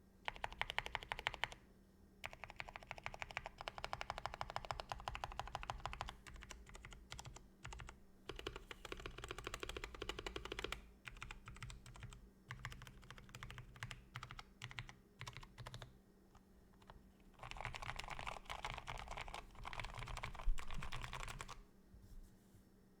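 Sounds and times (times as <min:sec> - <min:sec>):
mechanical keyboard typing: 0:00.3 - 0:01.6, 0:02.2 - 0:15.9, 0:16.8 - 0:21.6.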